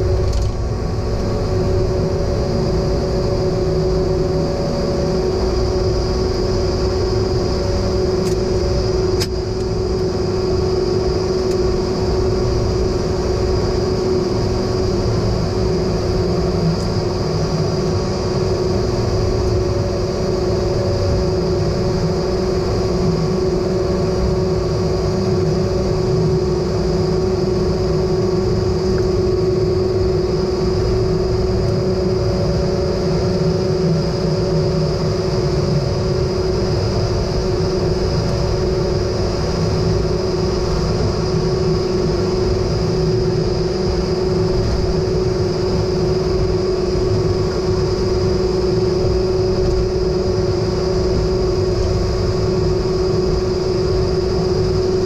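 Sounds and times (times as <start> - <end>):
jet engine drone with whine: 0.0 - 55.0.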